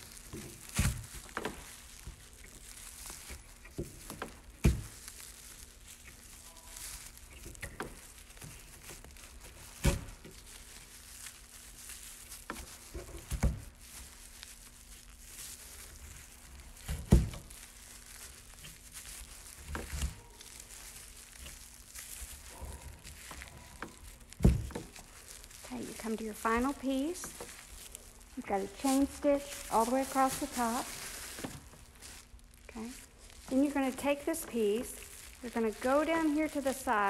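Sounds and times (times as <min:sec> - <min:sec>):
plastic yarn rustling and crinkling: 0:00.0 - 0:37.0.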